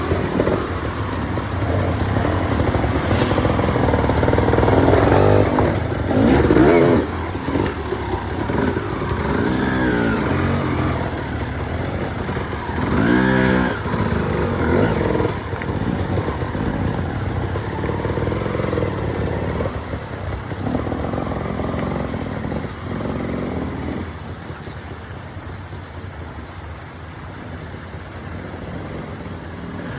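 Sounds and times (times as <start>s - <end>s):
dirt bike engine revving: 0.0s - 24.4s.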